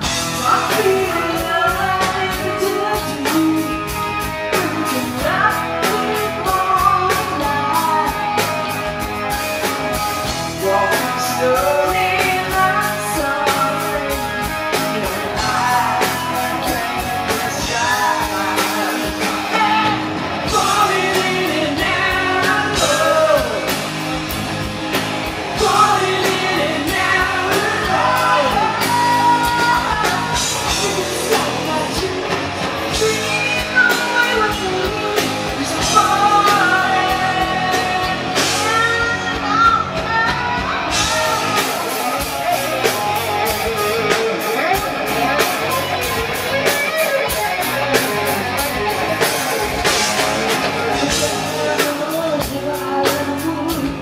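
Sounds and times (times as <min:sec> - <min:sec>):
woman singing: 0:00.0 - 0:09.4, 0:10.0 - 0:23.8, 0:25.5 - 0:43.0, 0:50.6 - 0:54.0
live hard rock band: 0:00.0 - 0:54.0.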